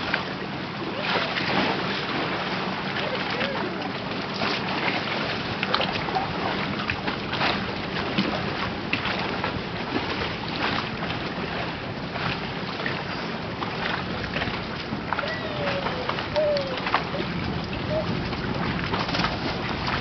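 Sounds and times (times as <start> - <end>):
lake water splashing: 0.0 - 20.0
wind buffeting microphone: 0.0 - 20.0.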